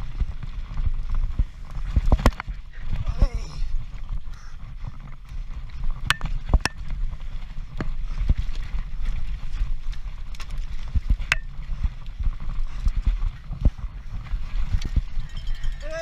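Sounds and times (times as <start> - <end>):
bike rattling and knocking: 0.0 - 16.0
wind rumbling on microphone: 0.0 - 16.0.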